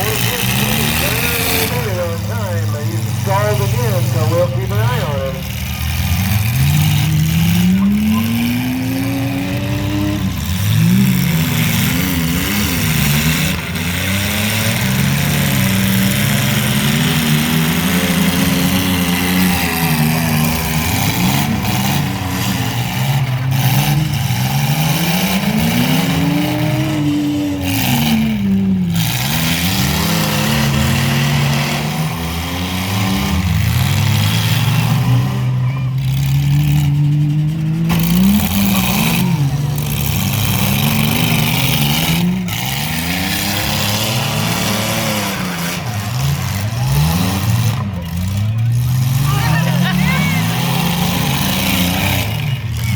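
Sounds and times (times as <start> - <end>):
mini-truck engines revving: 0.0 - 52.9.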